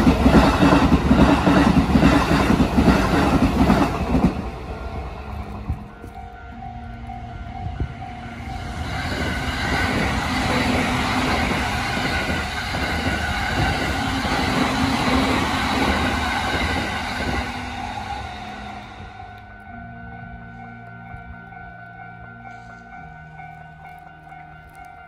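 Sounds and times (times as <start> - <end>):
electric train passing: 0.0 - 25.0
level crossing warning bell: 0.0 - 25.0.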